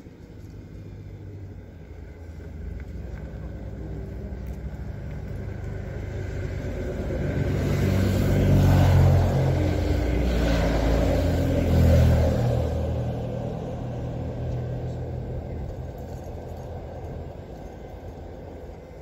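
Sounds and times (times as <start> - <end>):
passing vehicle engine and road rumble: 0.0 - 19.0.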